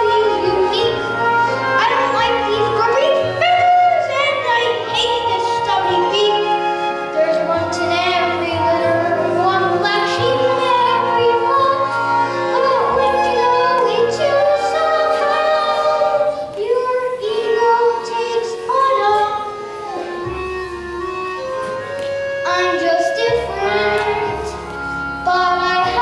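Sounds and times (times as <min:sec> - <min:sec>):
children singing: 0:00.0 - 0:20.5, 0:22.4 - 0:26.0
instrumental accompaniment: 0:00.0 - 0:26.0.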